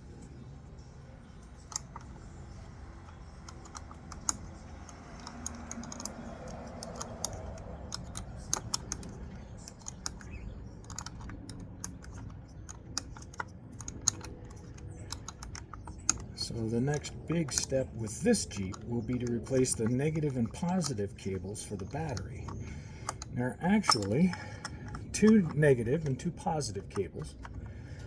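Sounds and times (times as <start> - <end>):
low steady hum: 0.0 - 28.0
irregular light clicks and taps: 1.3 - 28.0.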